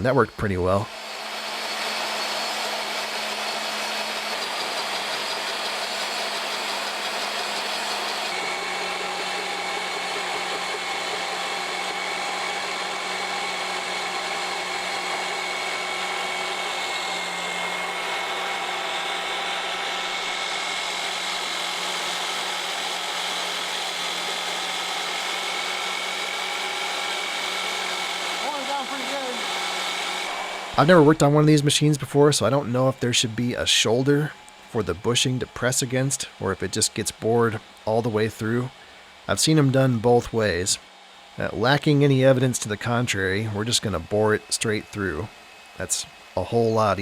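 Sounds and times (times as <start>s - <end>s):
boring machine hum and whine: 0.0s - 47.0s.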